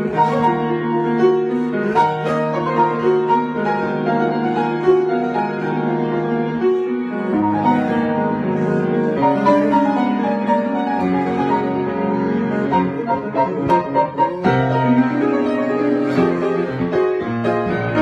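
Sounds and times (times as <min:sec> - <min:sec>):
piano melody: 0:00.0 - 0:18.0.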